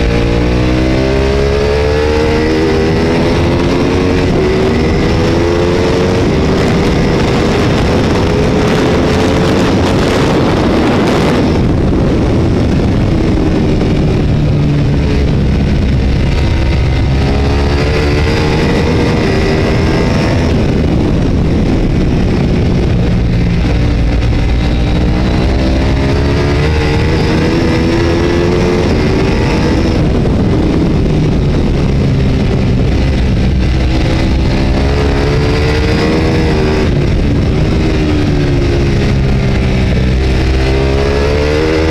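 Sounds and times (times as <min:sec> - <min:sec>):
heavy wind rush: 0:00.0 - 0:41.9
race motorcycle engine accelerating: 0:00.0 - 0:41.9.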